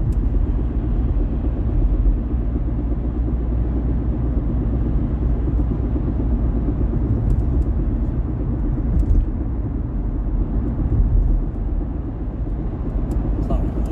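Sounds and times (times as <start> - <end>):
road and engine rumble: 0.0 - 13.9.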